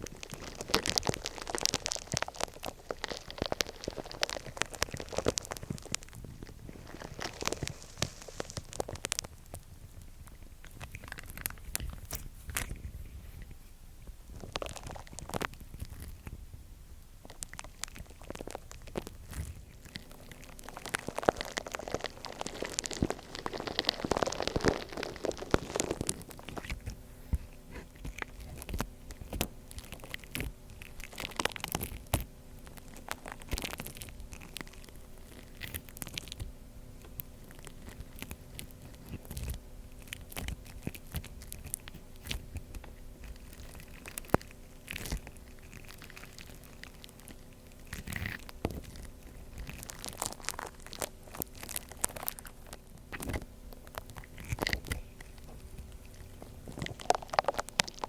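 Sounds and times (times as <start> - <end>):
slime squeezed by hand crackling: 0.0 - 13.6, 14.2 - 16.4, 17.2 - 58.0.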